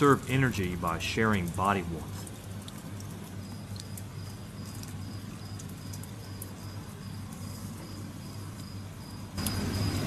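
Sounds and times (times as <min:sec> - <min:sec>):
crickets chirping: 0:00.0 - 0:10.0
low steady hum: 0:00.0 - 0:10.0.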